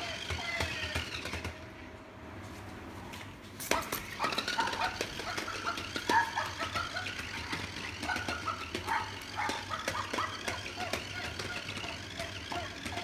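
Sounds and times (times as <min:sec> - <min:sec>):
toy motor humming: 0:00.0 - 0:01.6, 0:03.7 - 0:13.0
toy rattling and knocking on floor: 0:00.0 - 0:01.7, 0:03.7 - 0:13.0.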